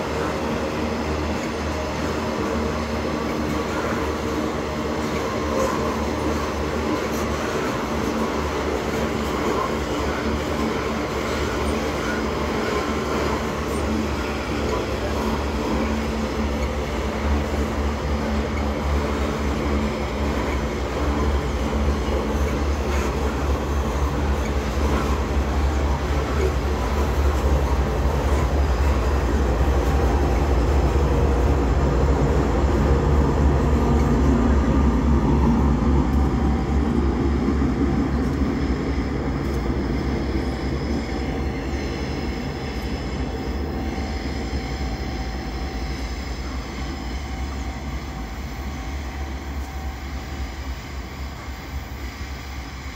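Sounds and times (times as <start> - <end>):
diesel locomotive passing: 0.0 - 52.9.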